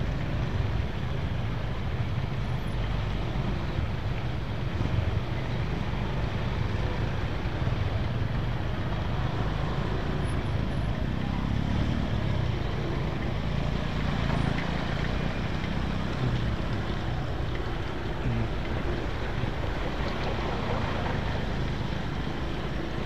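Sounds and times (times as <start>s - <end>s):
traffic rumble and road noise: 0.0s - 23.0s.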